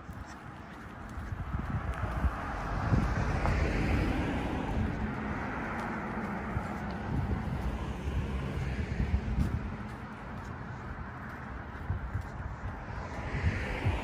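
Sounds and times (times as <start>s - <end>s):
car passing: 0.0s - 14.0s
wind buffeting microphone: 0.0s - 14.0s.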